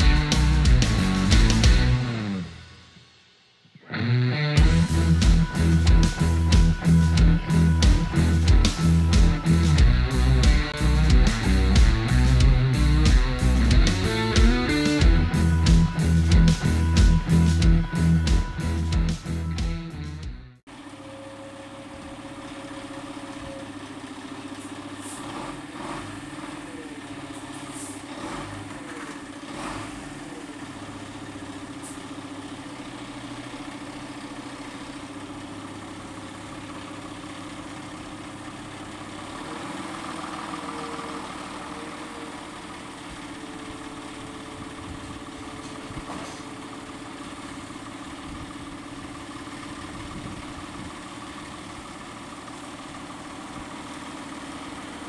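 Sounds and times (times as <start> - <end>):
fire engines idling: 0.0 - 3.9, 4.6 - 55.0.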